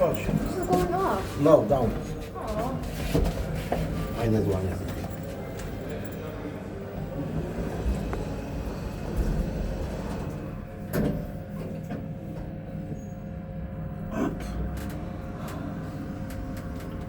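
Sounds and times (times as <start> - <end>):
elevator low hum: 0.0 - 17.0.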